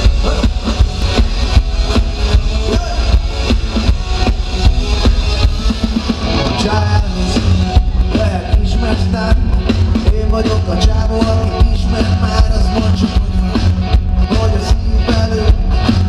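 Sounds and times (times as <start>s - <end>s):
drum kit beat: 0.0s - 16.0s
live rock band playing loud: 0.0s - 16.0s.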